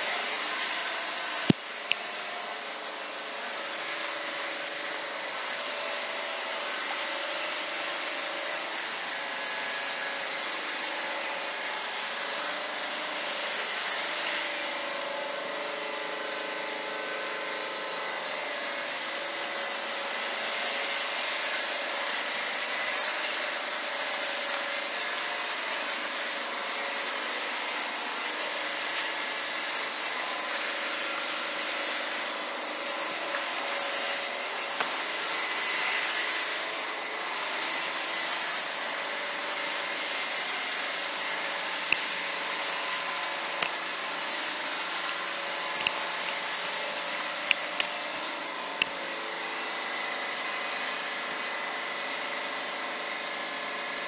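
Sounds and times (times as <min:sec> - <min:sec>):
airbrush spraying hiss: 0:00.0 - 0:14.4, 0:18.9 - 0:48.9.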